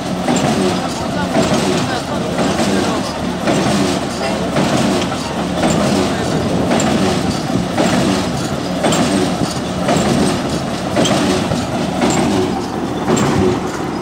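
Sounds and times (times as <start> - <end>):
drilling rig running: 0.0 - 14.0
regular mechanical knock: 0.0 - 14.0.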